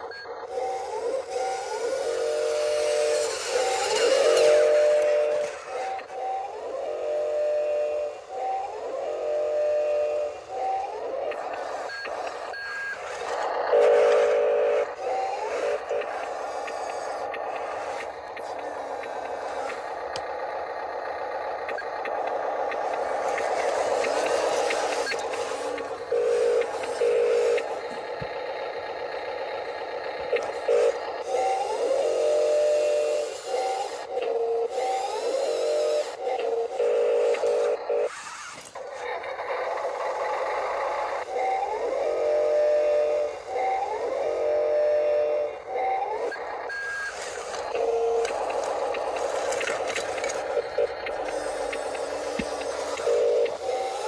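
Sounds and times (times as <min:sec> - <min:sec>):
electronic tone bursts: 0:00.0 - 0:28.0, 0:30.3 - 0:38.9, 0:39.8 - 0:54.0
electronic engine-like noise: 0:00.0 - 0:54.0.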